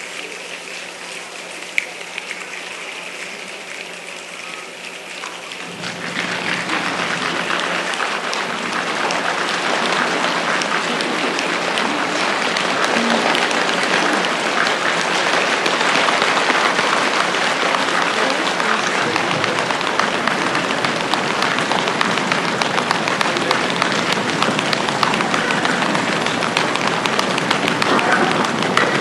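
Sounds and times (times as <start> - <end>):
audience clapping and patting: 5.2 - 29.0.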